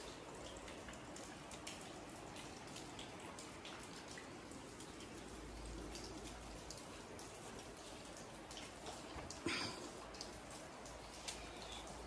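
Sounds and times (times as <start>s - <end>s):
faint rain patter: 0.0s - 12.0s
raindrops on wet concrete: 0.0s - 12.0s.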